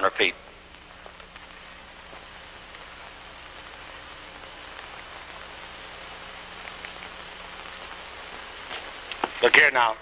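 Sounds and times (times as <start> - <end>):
low hum: 0.0 - 9.4
faint crackles: 0.0 - 10.0
film soundtrack hiss: 0.0 - 10.0.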